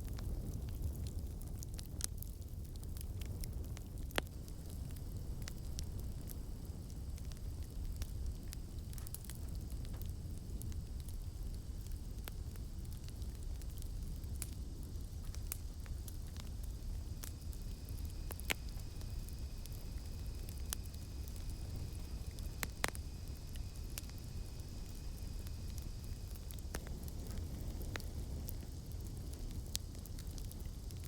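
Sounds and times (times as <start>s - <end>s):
campfire crackling: 0.0s - 31.0s
cicadas droning: 4.3s - 31.0s.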